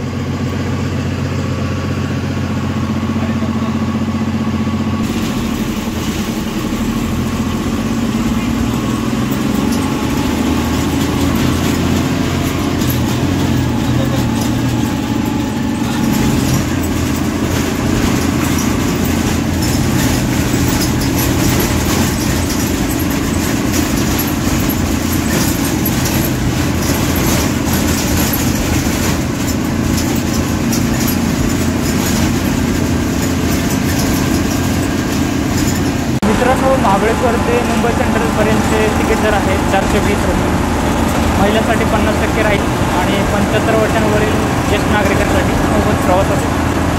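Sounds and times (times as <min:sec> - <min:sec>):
bus body rattling: 0:00.0 - 0:46.9
bus diesel engine running: 0:00.0 - 0:46.9
road noise: 0:00.0 - 0:46.9.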